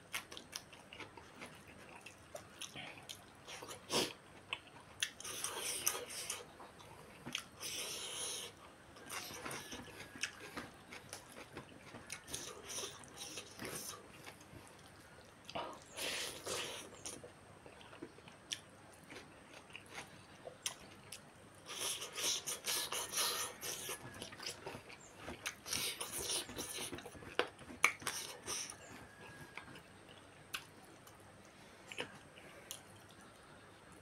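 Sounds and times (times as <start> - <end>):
person chewing food: 0.1 - 34.0.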